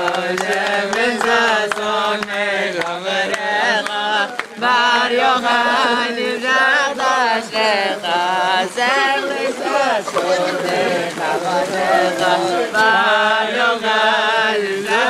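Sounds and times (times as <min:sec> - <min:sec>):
group of men singing: 0:00.0 - 0:15.0.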